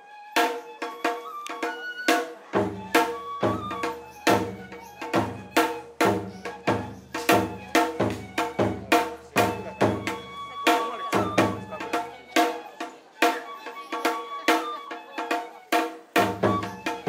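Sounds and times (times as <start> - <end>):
bamboo flute melody: 0.0 - 17.0
stick strokes on rope drum: 0.4 - 17.0
deep barrel drum beats: 2.4 - 17.0.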